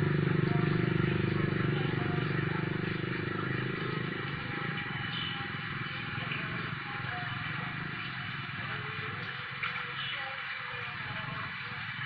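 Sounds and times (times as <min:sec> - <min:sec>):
low engine drone: 0:00.0 - 0:10.2.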